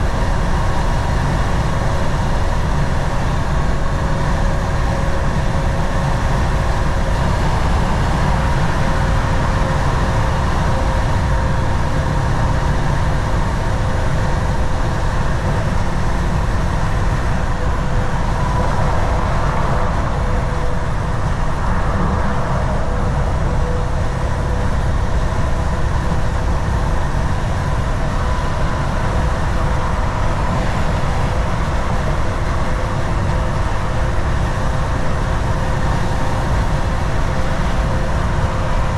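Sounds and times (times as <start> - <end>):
faint steady whine: 0.0 - 38.9
truck engine and road rumble: 0.0 - 38.9.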